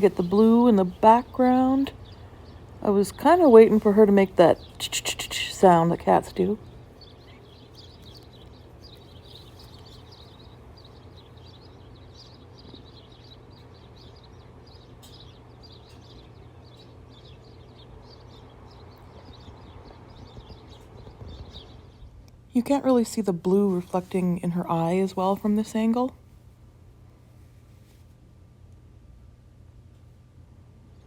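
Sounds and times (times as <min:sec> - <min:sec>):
small birds chirping: 0:00.0 - 0:26.3, 0:30.7 - 0:31.0
steady low hum: 0:00.0 - 0:31.0.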